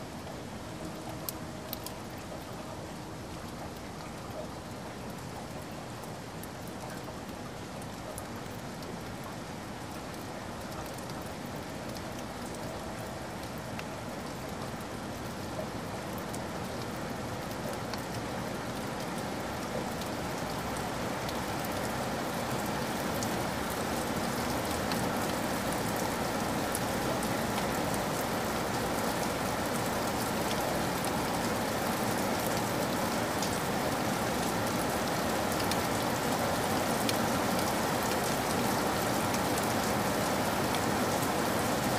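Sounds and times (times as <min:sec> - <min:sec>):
rain-like patter: 0:00.0 - 0:41.9.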